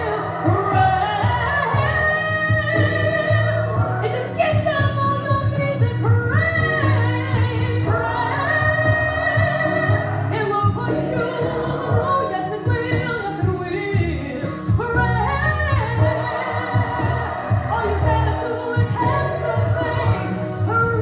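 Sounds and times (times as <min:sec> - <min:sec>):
musical accompaniment with bass: 0:00.0 - 0:21.0
woman singing gospel: 0:00.0 - 0:21.0.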